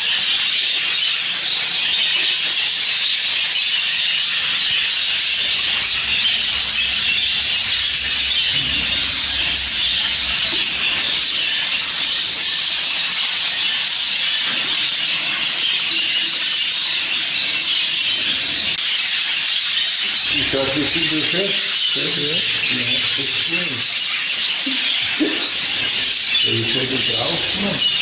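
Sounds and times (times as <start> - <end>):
budgerigars chattering and warbling: 0.0 - 28.0.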